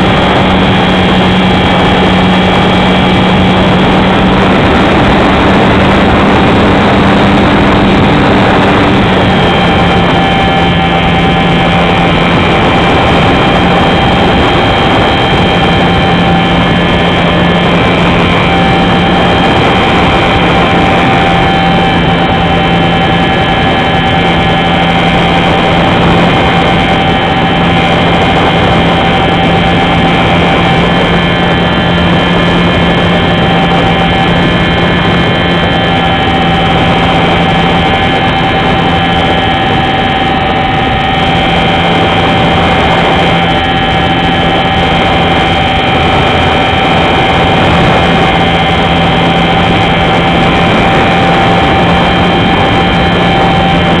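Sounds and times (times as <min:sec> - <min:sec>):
model airplane motor whining: 0:00.0 - 0:54.0.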